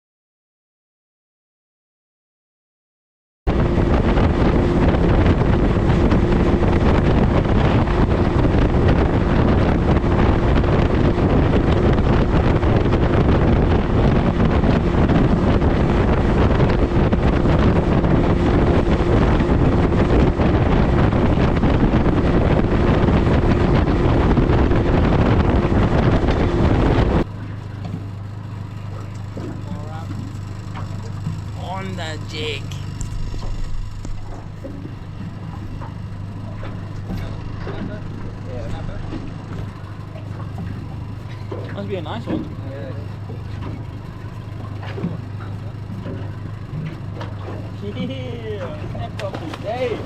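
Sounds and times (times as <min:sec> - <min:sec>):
wind buffeting microphone: 0:03.5 - 0:32.2, 0:32.8 - 0:50.0
outboard engine drone: 0:03.5 - 0:50.0
water noise: 0:03.5 - 0:50.0.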